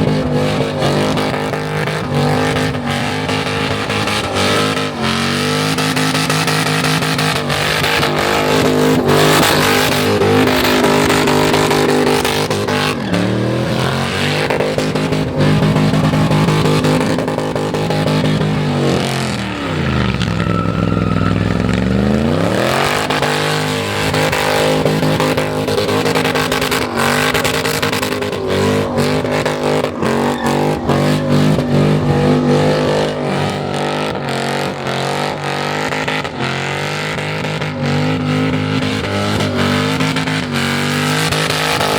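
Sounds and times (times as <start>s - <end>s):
engine at high revs: 0.0s - 41.9s
engine cracks and stutters: 0.0s - 41.9s.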